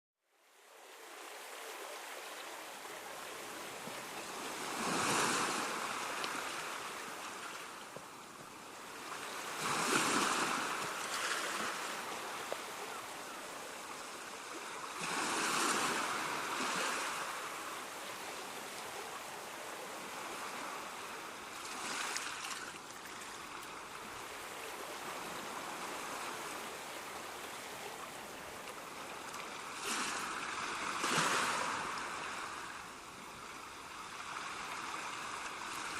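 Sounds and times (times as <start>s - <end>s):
waves washing in: 0.8s - 35.9s.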